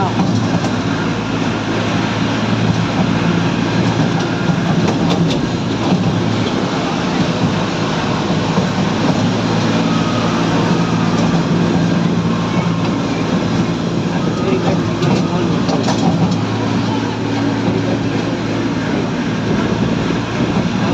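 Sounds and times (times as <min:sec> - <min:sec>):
carriages running noise: 0:00.0 - 0:20.9.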